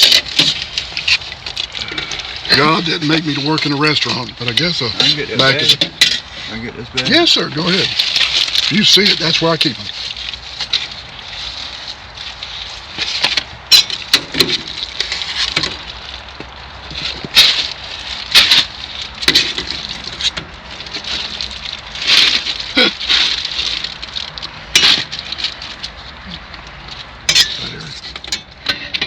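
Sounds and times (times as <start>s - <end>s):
plastic bag crinkling: 0.0s - 27.9s.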